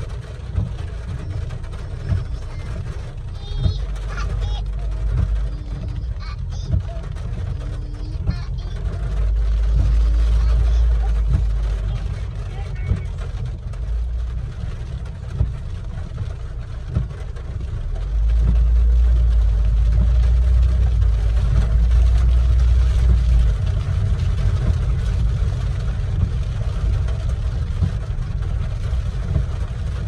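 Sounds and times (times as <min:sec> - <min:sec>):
car road and engine rumble: 0:00.0 - 0:30.0
rain hiss: 0:00.0 - 0:30.0.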